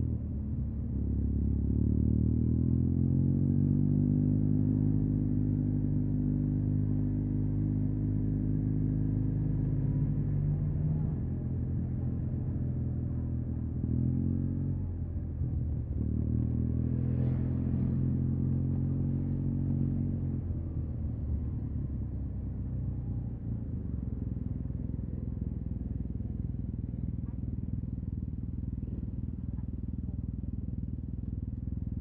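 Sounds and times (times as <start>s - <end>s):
scooter engine running at low revs: 0.0s - 32.0s.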